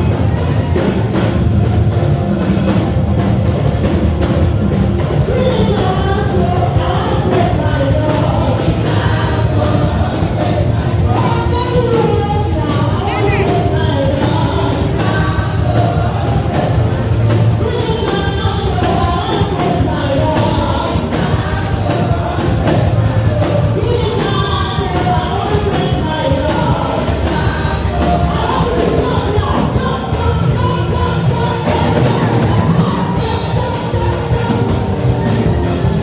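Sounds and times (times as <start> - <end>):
band with steady beat: 0.0 - 36.0
voices singing together: 5.0 - 36.0.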